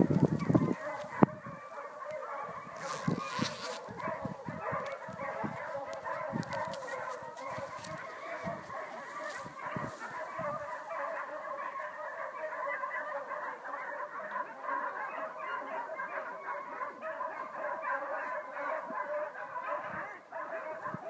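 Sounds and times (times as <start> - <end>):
many dogs barking: 0.0 - 21.0.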